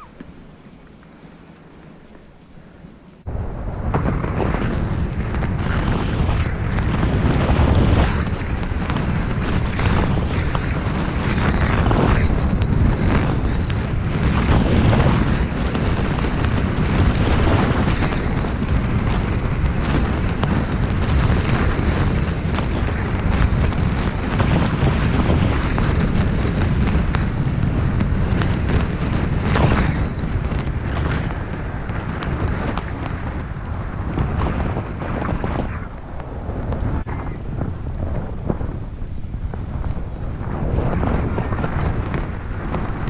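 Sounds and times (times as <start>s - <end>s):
skis swishing through snow: 0.0s - 43.0s
wind rumble on microphone: 0.0s - 43.0s.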